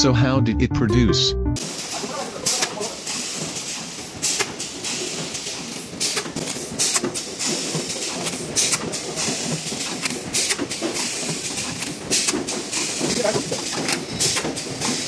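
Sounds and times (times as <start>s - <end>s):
packing machine clatter: 2.1s - 15.0s.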